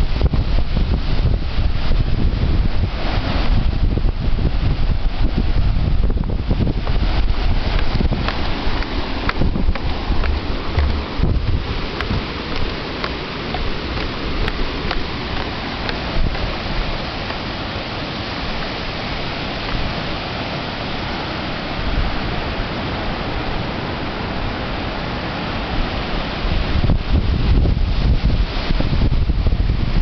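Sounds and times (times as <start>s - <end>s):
ocean waves breaking on beach: 0.0s - 30.0s.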